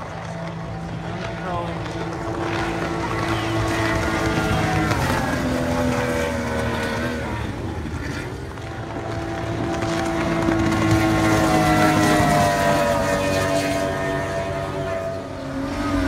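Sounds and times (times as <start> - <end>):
speedboat engines passing: 0.0 - 16.0.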